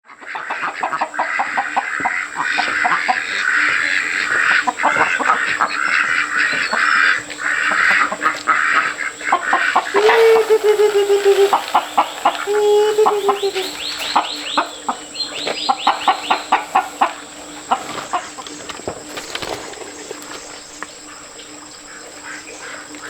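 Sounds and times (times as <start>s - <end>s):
bird calls chattering: 3.1s - 22.9s.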